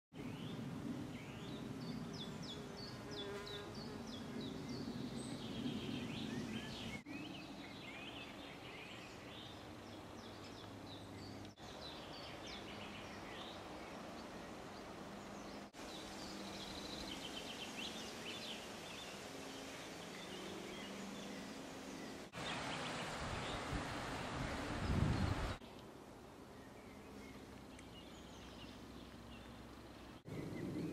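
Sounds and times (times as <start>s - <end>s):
small birds chirping: 1.2s - 30.9s.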